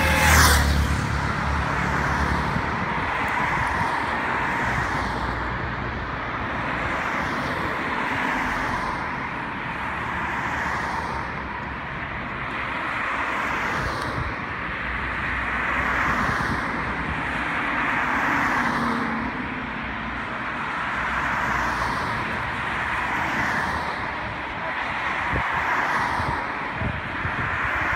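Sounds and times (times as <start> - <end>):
cars driving past: 0.0 - 27.9.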